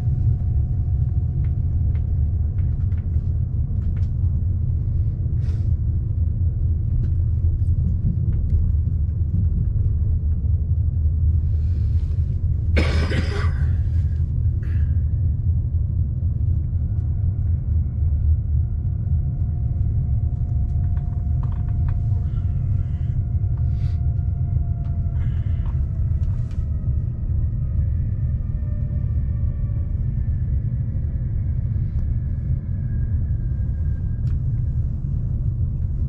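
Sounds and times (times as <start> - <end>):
faint whining tones: 0.0 - 36.0
train rumbling inside carriage: 0.0 - 36.0.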